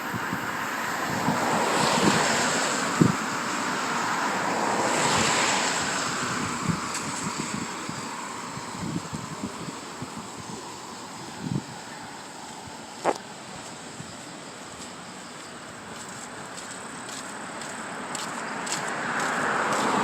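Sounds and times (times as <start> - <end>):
wind rumbling on microphone: 0.0 - 16.6.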